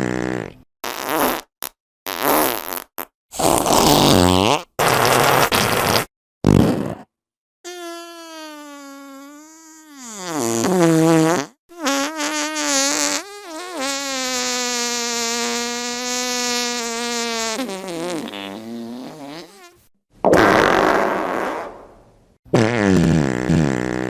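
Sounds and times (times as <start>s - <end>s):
fart sound effects: 0.0s - 7.1s, 7.7s - 24.0s.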